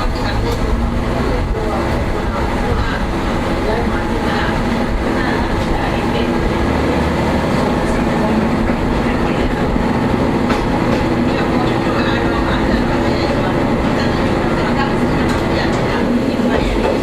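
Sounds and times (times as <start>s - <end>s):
diesel railcar engine running: 0.0s - 17.0s.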